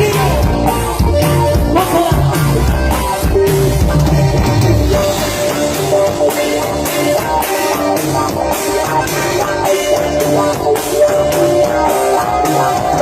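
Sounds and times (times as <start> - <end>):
drum kit: 0.0 - 13.0
electric guitar: 0.0 - 13.0.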